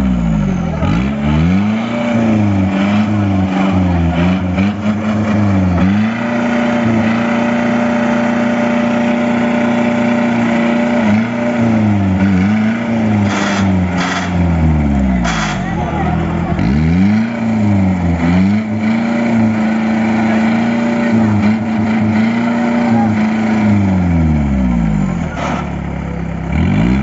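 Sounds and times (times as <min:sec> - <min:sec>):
jeep engine revving under load: 0:00.0 - 0:27.0.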